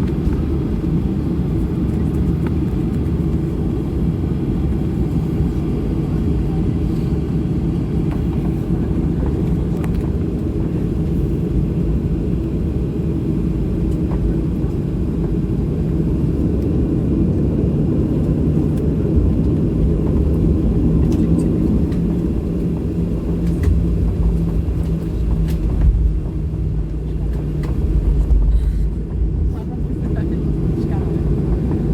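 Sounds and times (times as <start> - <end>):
aircraft cabin engine rumble: 0.0 - 31.9.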